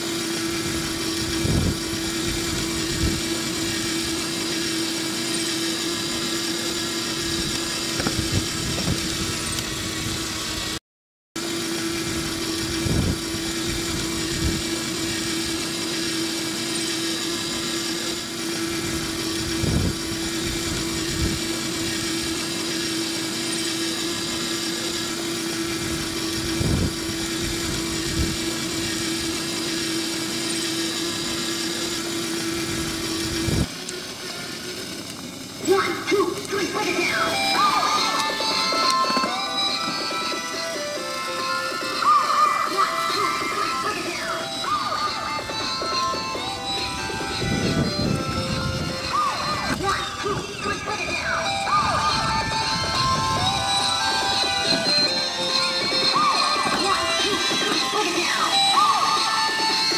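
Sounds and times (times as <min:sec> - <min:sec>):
electric motor whining: 0:00.0 - 0:10.8, 0:11.4 - 0:59.9.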